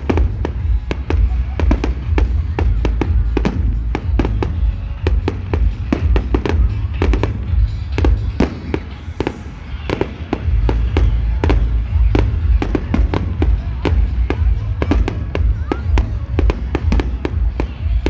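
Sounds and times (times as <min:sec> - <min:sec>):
deep steady rumble: 0:00.0 - 0:18.0
fireworks bangs and crackles: 0:00.0 - 0:18.0.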